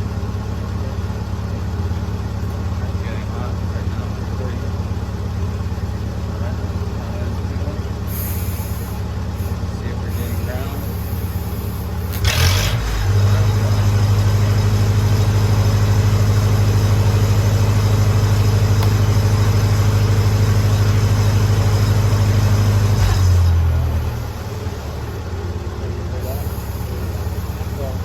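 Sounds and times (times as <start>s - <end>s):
welder engine droning: 0.0s - 28.0s.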